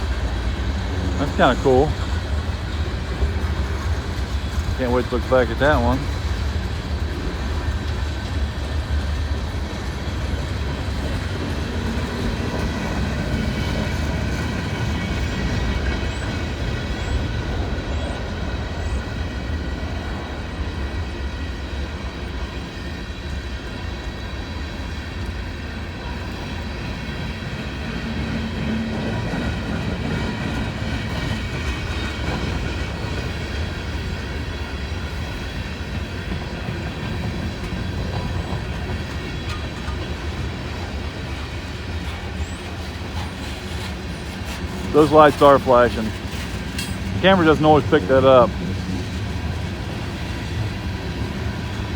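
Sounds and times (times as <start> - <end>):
steel wheels rumbling on rails: 0.0 - 51.9.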